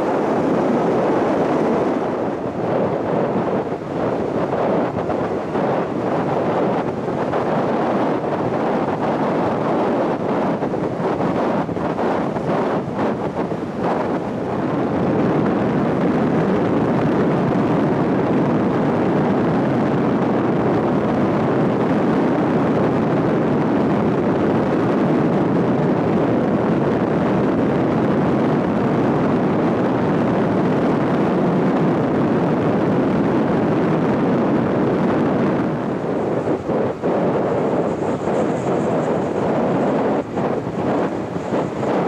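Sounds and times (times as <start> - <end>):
car road and wind noise: 0.0 - 42.0.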